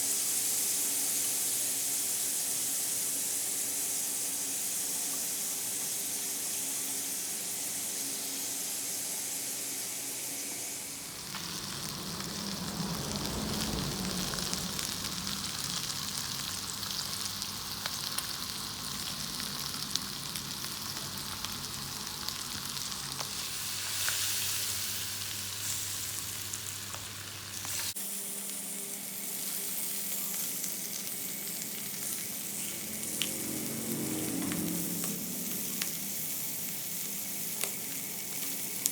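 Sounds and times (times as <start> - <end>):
meat and vegetables sizzling: 0.0 - 38.9.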